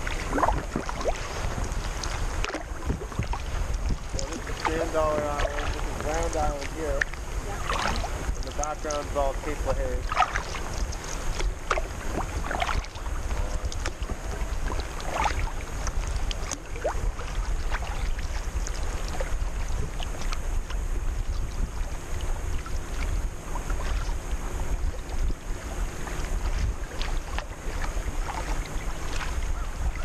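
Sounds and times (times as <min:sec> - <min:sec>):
paddle splashes and drips: 0:00.0 - 0:30.0
wind rumbling on microphone: 0:00.0 - 0:30.0.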